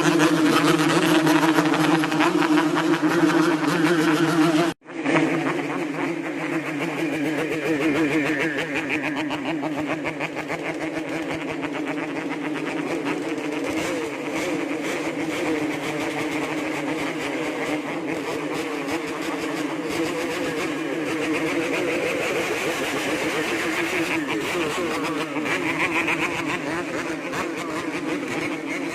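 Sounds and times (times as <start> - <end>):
two-stroke engine revving: 0.0 - 28.9.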